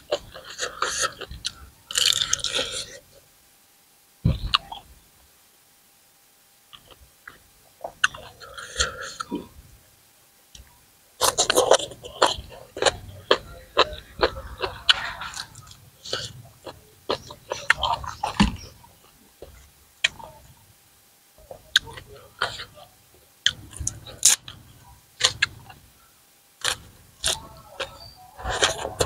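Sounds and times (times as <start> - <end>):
man chewing and crunching food: 0.0 - 3.2, 6.7 - 9.6, 10.6 - 20.7, 21.4 - 29.0.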